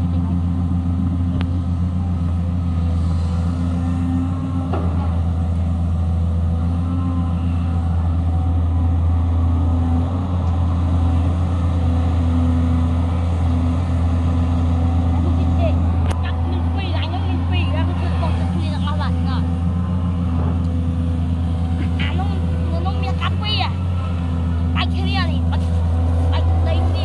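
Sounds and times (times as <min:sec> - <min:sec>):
excavator diesel engine droning: 0:00.0 - 0:27.0.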